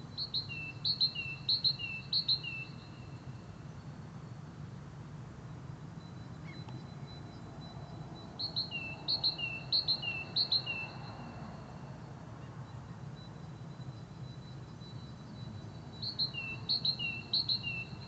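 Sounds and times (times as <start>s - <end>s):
bird singing: 0.0s - 4.0s, 5.8s - 11.7s, 12.4s - 18.0s
faint steady high tone: 0.0s - 18.0s.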